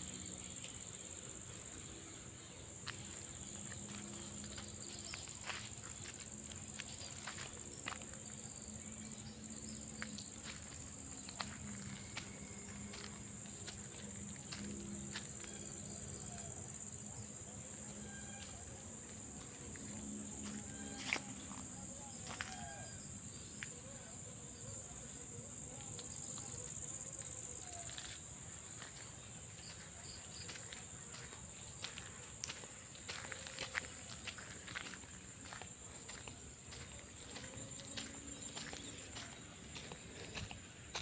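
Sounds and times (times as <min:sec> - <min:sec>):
insect chorus drone: 0:00.0 - 0:41.0.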